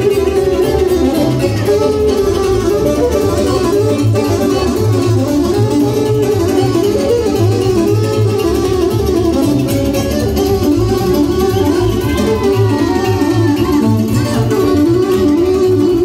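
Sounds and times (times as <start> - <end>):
folk dance band playing: 0.0 - 16.0.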